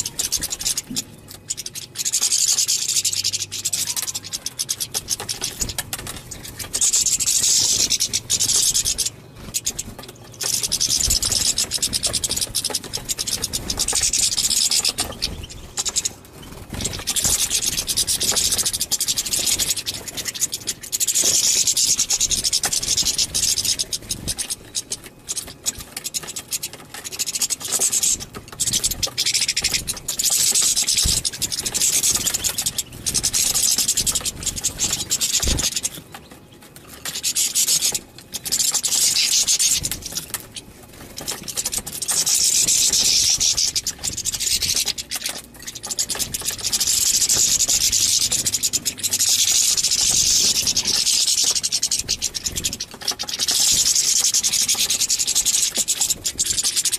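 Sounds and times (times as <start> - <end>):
goldfinches twittering: 0.0 - 56.9.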